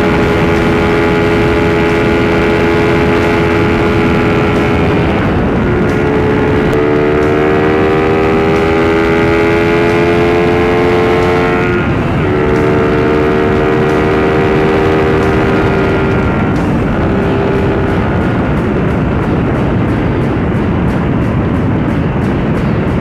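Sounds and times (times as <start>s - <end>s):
motorcycle engine: 0.0s - 23.0s
wind and road noise: 0.0s - 23.0s.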